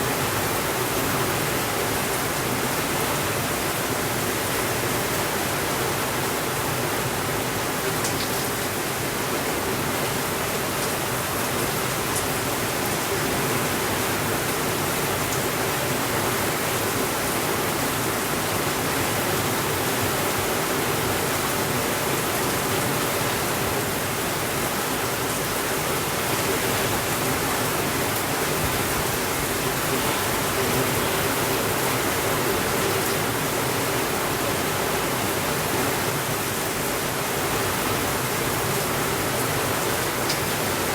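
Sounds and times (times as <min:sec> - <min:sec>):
heavy rain on a window: 0:00.0 - 0:40.9.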